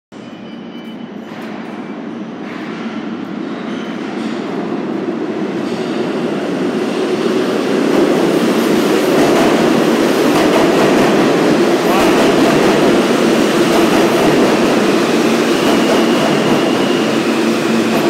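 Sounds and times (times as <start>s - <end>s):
subway train wheels rumbling: 0.1s - 18.0s.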